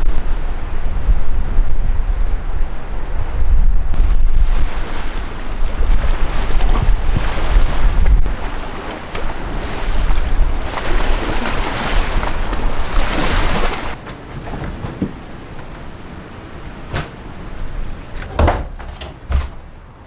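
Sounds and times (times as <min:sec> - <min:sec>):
storm wind gusting: 0:00.0 - 0:20.0.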